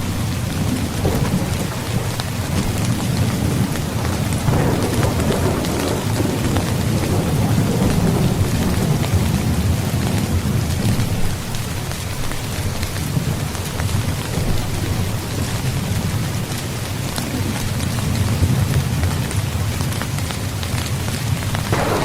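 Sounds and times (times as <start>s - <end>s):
rolling thunder rumble: 0.0s - 20.0s, 21.6s - 22.0s
heavy rain pattering: 0.0s - 22.0s
raindrop ticks: 0.0s - 22.0s.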